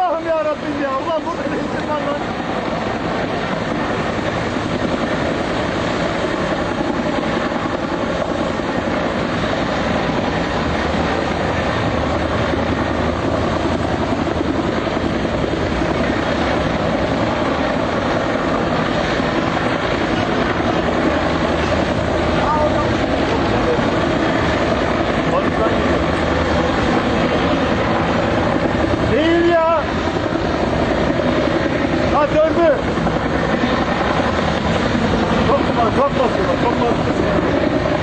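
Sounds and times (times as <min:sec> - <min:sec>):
helicopter rotor drone: 0:00.0 - 0:38.0.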